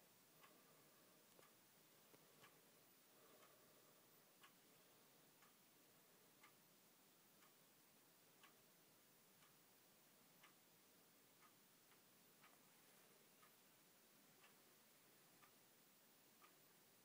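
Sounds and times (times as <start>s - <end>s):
clock ticking faintly: 0.0s - 17.0s.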